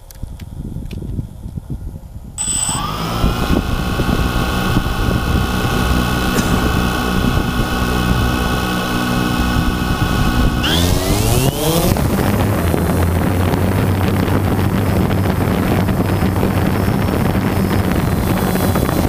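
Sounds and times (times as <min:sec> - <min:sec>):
drone motors whining: 0:02.4 - 0:19.0.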